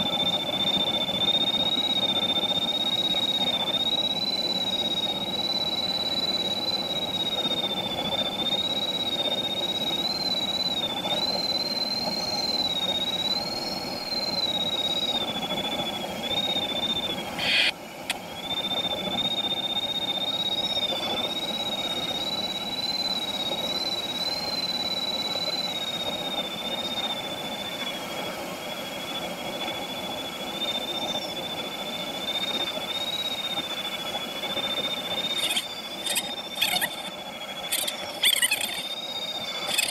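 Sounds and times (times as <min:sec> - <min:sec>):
high-pitched wavering whistle: 0:00.0 - 0:39.9.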